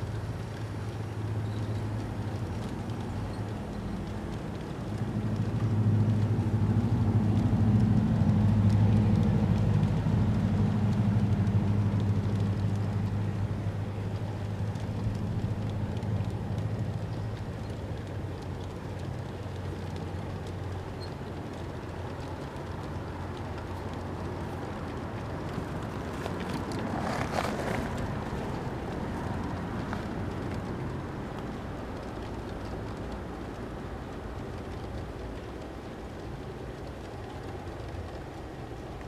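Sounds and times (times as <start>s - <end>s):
diesel locomotive rumble: 0.0s - 39.0s.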